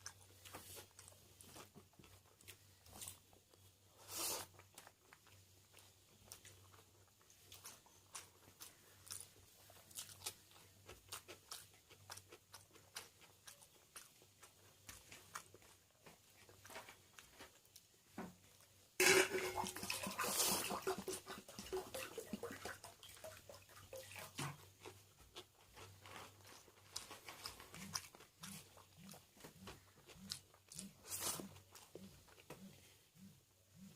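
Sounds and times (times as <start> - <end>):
person chewing: 0.0 - 33.9.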